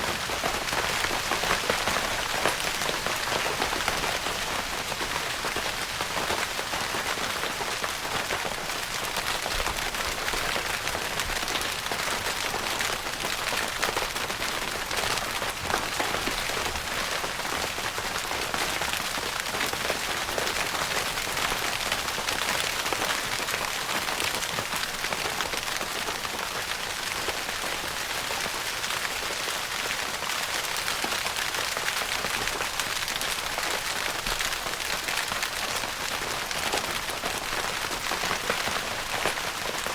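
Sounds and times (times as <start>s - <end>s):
rain pattering on tent fabric: 0.0s - 39.9s.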